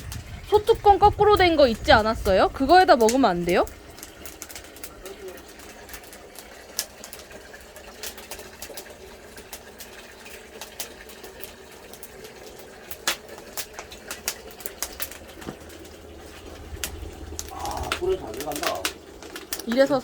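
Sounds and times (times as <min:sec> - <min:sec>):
firewood popping and snapping: 0:00.0 - 0:20.0
wood fire crackling: 0:00.0 - 0:20.0.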